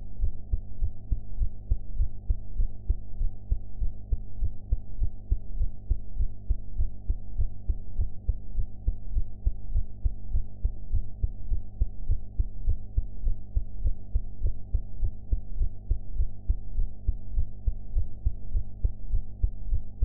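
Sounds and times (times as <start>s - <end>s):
faint steady hum: 0.0s - 20.0s
muffled heartbeat thumps: 0.2s - 20.0s.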